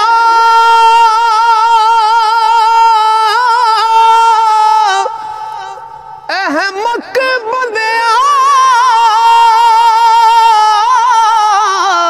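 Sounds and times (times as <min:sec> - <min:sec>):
man singing high held note: 0:00.0 - 0:12.0.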